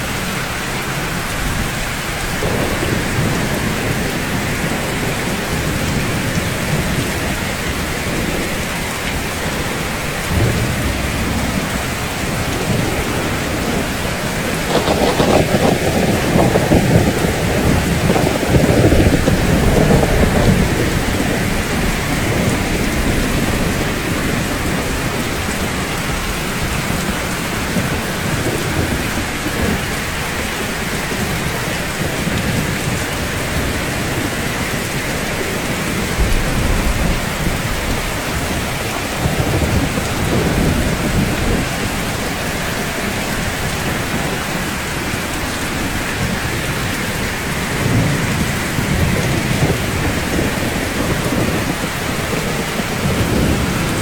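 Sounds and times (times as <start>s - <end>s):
steady rainfall: 0.0s - 54.0s
low rolls of thunder: 1.1s - 54.0s.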